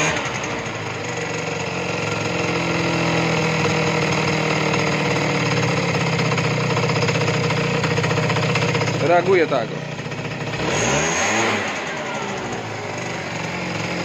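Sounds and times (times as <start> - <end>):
scooter engine idling: 0.0 - 14.0.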